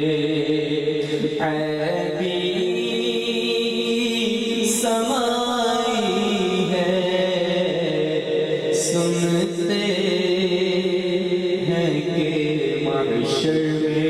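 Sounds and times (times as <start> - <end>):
man singing into microphone: 0.0 - 14.0.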